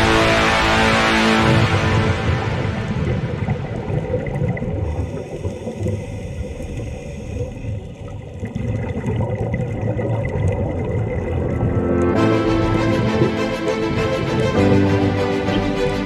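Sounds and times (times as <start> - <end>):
muffled underwater rumble: 0.0 - 13.4.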